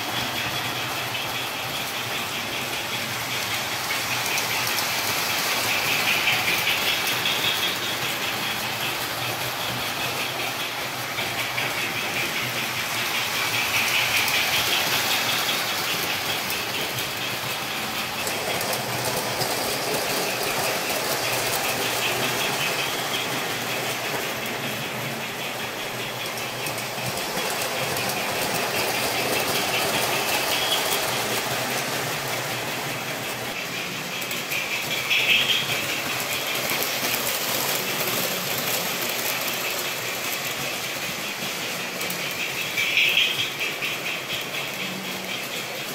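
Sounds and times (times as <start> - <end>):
model trains whirring on track: 0.0 - 45.9.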